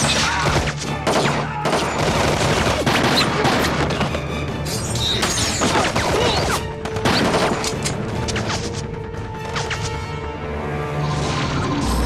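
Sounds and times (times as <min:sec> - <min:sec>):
dramatic background music: 0:00.0 - 0:12.0.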